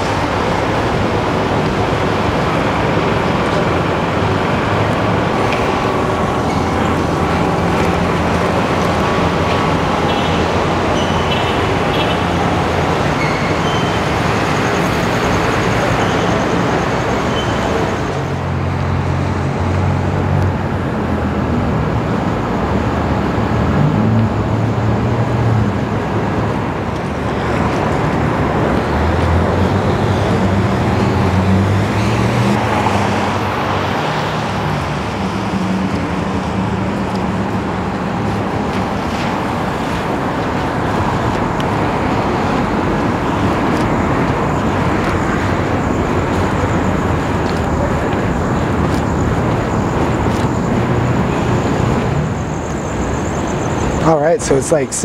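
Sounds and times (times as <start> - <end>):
cars driving on wet streets: 0.0 - 55.0.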